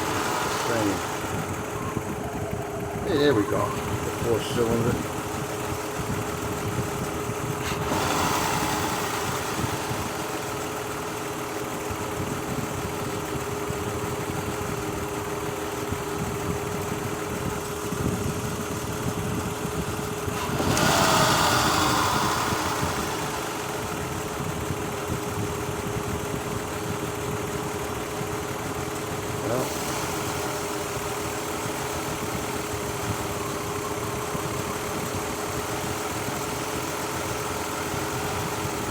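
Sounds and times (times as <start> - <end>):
car engine idling with misfire: 0.0 - 38.9.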